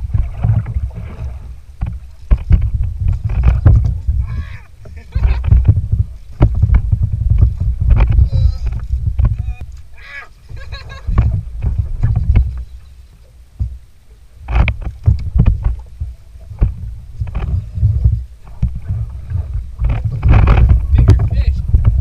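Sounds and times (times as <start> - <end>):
water slapping kayak hull: 0.0 - 22.0
wind buffeting microphone: 0.0 - 22.0.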